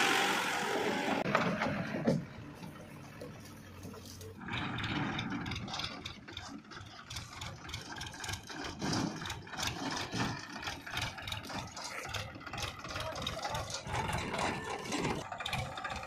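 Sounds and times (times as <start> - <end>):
tractor diesel engine running: 0.0 - 16.0
trailer rattling: 1.0 - 16.0.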